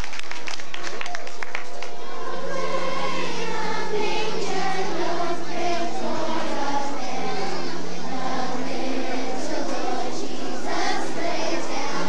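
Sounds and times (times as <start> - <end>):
sustained low accompaniment: 0.0 - 12.0
children's choir singing: 1.6 - 12.0.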